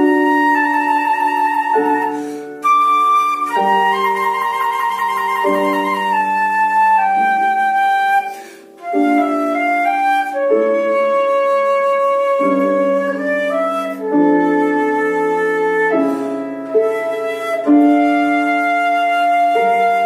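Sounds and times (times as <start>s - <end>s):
flute-like melody: 0.0s - 20.0s
piano accompaniment: 0.0s - 20.0s.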